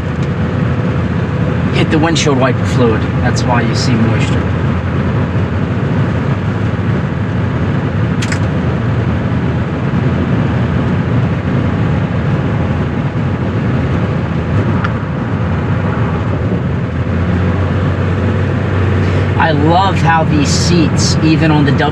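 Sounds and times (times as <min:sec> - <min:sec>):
diesel engine running: 0:00.0 - 0:21.9
road rumble: 0:00.0 - 0:21.9.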